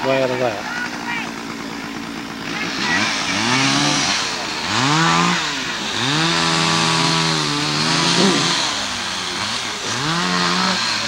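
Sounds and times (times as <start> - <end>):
chainsaw cutting through tree trunk: 0.0 - 11.0
chainsaw revving: 0.0 - 11.0.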